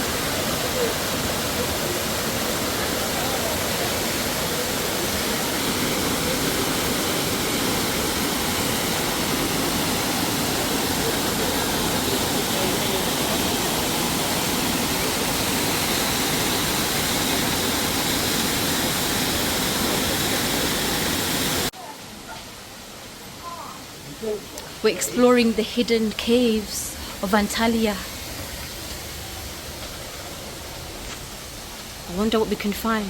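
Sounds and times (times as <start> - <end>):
waterfall rushing: 0.0 - 32.7.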